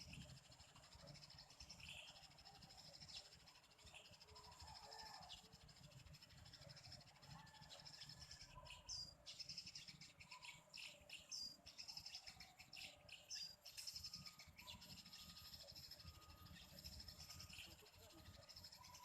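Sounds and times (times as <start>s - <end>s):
high-pitched background hiss: 0.0s - 7.8s, 11.3s - 19.0s
sparrows chirping: 0.0s - 19.0s.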